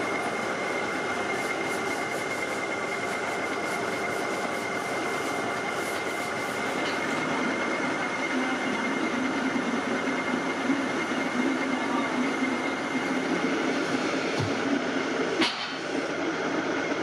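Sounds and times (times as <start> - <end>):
lathe running with high whine: 0.0 - 17.0.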